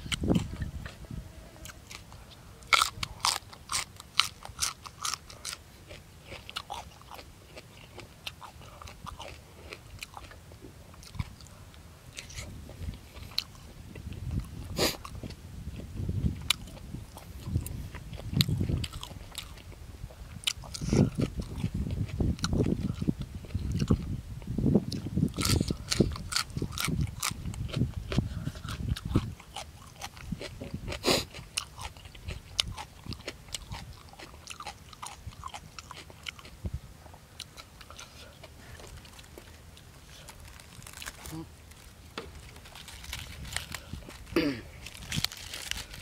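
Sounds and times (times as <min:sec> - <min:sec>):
man chewing with wet mouth smacks: 0:00.0 - 0:01.0, 0:01.6 - 0:46.0.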